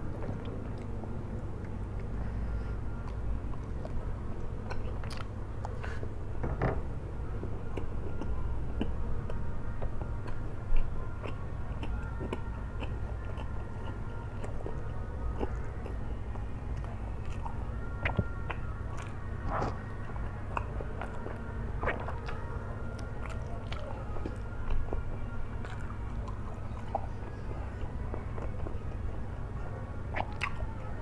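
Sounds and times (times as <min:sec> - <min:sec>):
low hum: 0:00.0 - 0:31.0
person chewing noodles: 0:01.6 - 0:06.2, 0:07.6 - 0:30.8.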